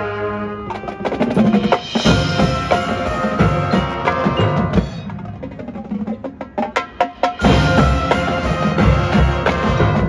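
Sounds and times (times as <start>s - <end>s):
marching band playing: 0.0s - 10.0s
percussion strikes: 0.7s - 10.0s.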